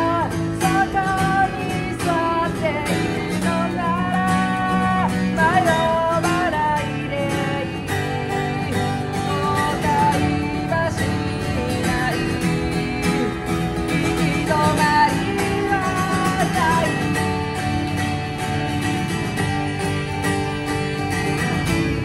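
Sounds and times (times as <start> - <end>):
man singing: 0.0 - 18.5
strummed acoustic guitar: 0.0 - 22.0.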